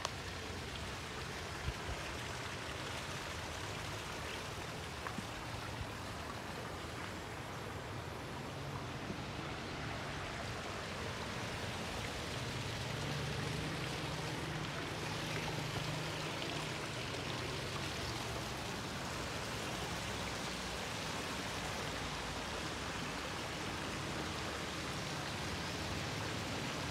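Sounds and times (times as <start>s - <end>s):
fountains splashing: 0.0s - 26.9s.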